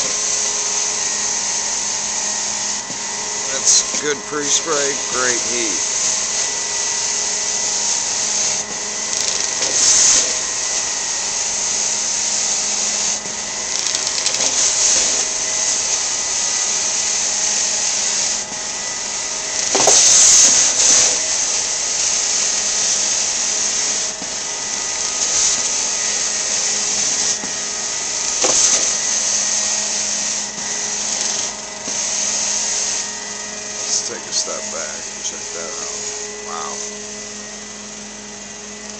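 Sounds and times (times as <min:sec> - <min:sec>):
carpet cleaner suction hiss: 0:00.0 - 0:38.9
faint steady whine: 0:00.0 - 0:38.9.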